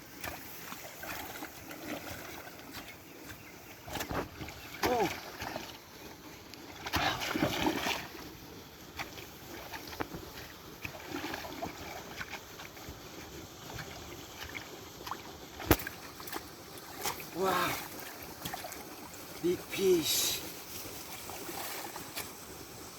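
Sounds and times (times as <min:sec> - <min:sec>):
water splashing and sloshing: 0:00.0 - 0:22.9.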